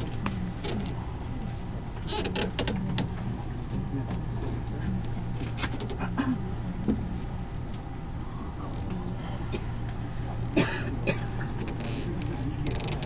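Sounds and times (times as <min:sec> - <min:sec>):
train car hum: 0:00.0 - 0:13.0.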